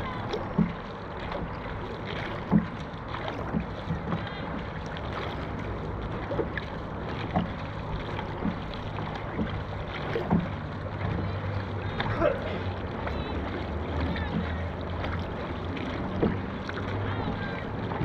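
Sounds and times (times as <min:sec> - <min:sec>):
paddle stroke thumps: 0:00.0 - 0:18.0
water noise: 0:00.0 - 0:18.0.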